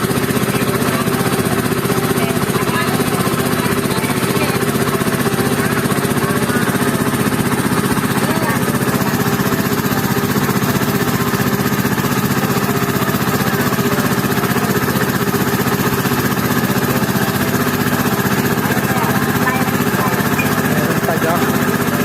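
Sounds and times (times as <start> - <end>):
small boat engine droning: 0.0 - 22.0.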